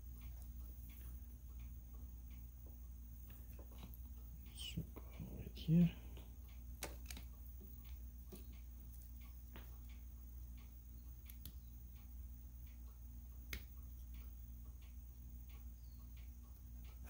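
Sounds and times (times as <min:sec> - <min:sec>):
steady low hum: 0:00.0 - 0:17.0
light clicks and taps: 0:00.1 - 0:17.0.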